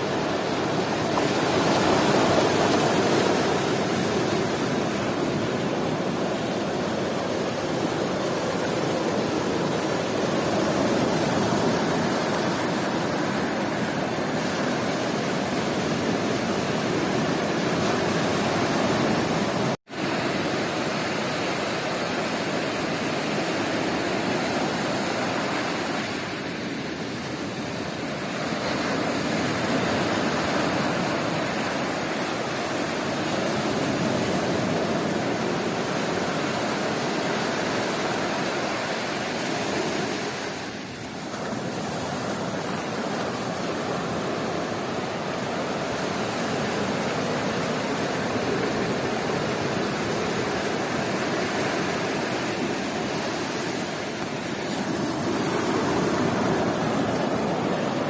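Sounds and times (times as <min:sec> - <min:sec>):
waves washing onto beach: 0:00.0 - 0:58.0.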